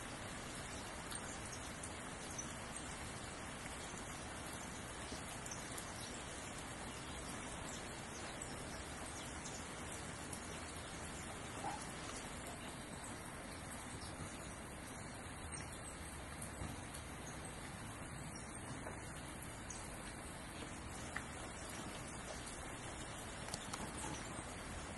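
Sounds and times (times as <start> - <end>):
rain on foliage: 0.0 - 24.9.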